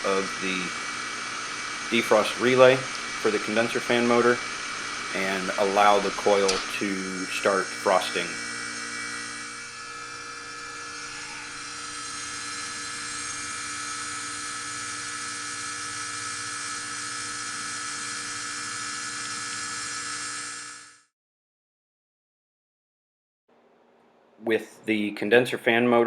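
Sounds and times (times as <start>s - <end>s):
heat pump humming with whine: 0.0s - 21.0s.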